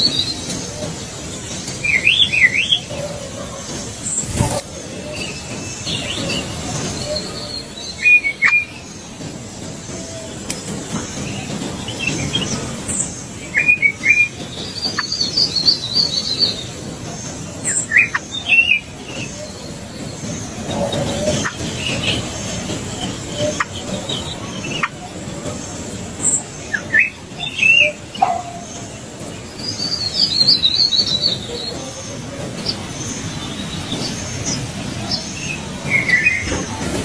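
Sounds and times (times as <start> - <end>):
birds chirping: 0.0 - 37.0
rapid bird twittering: 0.0 - 37.0.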